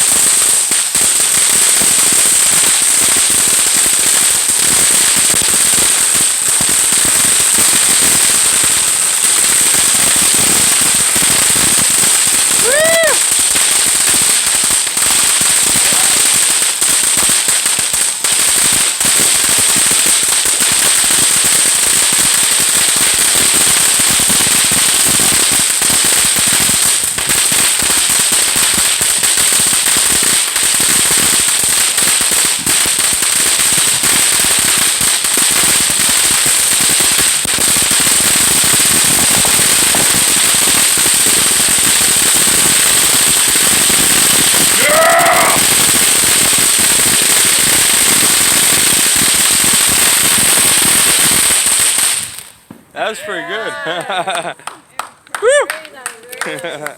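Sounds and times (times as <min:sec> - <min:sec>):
firework fountain hissing: 0:00.0 - 0:56.9.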